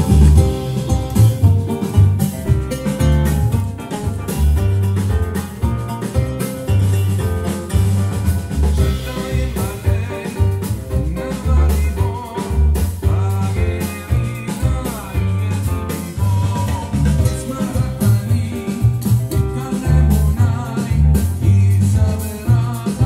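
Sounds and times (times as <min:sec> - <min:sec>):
music with bass and drums: 0:00.0 - 0:23.0.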